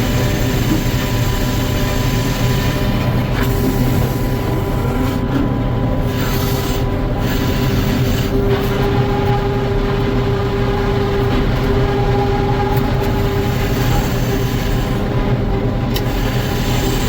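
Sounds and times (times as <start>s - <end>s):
sawmill machinery rumbling: 0.0s - 17.0s
steady hum: 0.0s - 17.0s.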